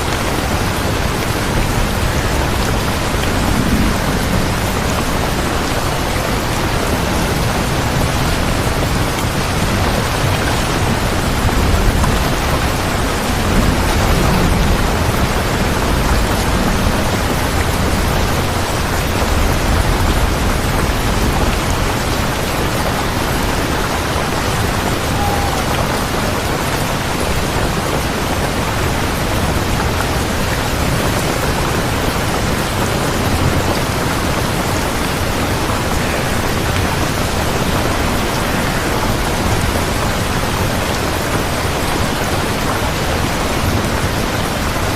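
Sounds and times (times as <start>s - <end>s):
dense rainfall: 0.0s - 44.9s
thunder rumble: 0.0s - 44.9s.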